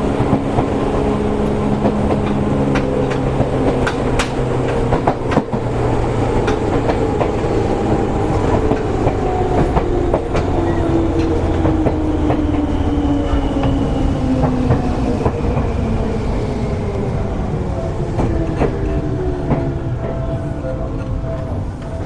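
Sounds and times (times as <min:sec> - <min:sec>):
train rumble: 0:00.0 - 0:22.0
train traction motor hum: 0:00.0 - 0:22.0
wheels clacking over rail joints: 0:00.0 - 0:22.0.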